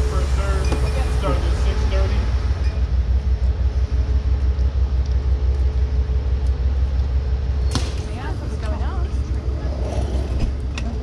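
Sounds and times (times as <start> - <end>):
train idling rumble: 0.0 - 11.0.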